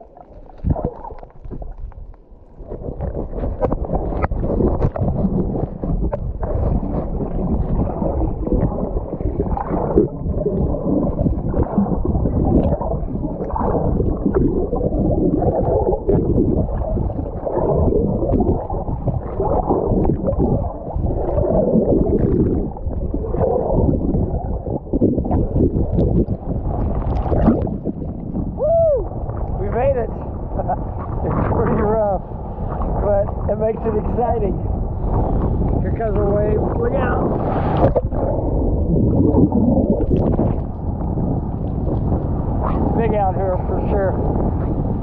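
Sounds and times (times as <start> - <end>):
low rumble of wind and swells: 0.0 - 45.0
muffled water sloshing and gurgling: 0.0 - 45.0.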